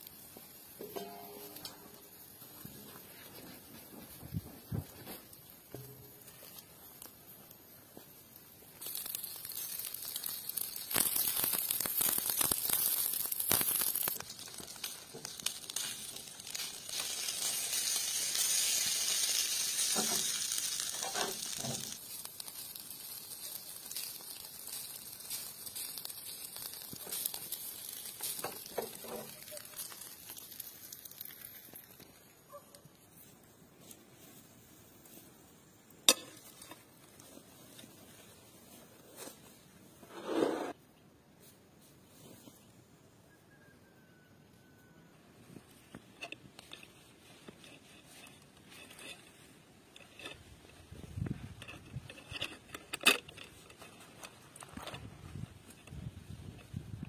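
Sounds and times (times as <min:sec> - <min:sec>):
liquid sizzling on hot charcoal: 0:00.0 - 0:40.0, 0:45.5 - 0:57.0.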